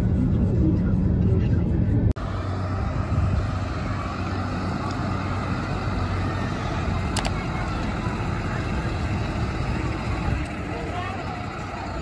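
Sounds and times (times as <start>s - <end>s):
diesel truck engine humming: 2.0s - 12.0s.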